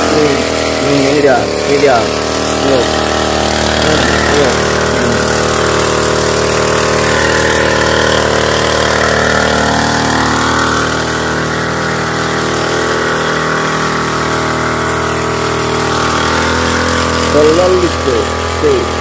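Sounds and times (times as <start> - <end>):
sprayer petrol engine running: 0.0 - 19.0.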